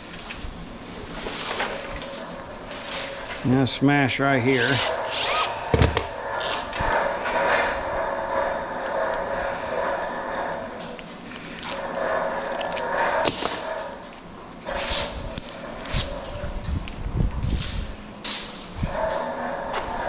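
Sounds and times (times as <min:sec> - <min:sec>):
droning whine: 0:00.0 - 0:20.0.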